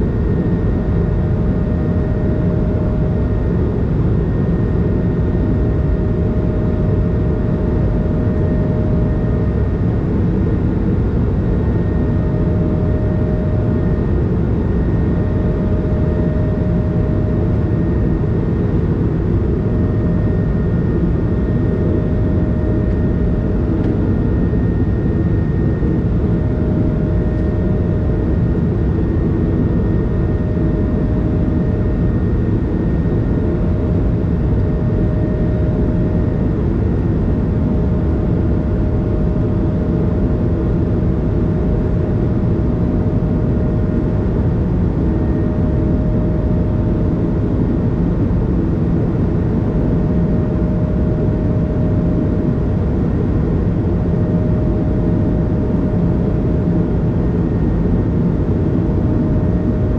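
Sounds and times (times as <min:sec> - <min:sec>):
airplane cabin engine roar: 0:00.0 - 0:59.9
thin steady whine: 0:00.0 - 0:59.9.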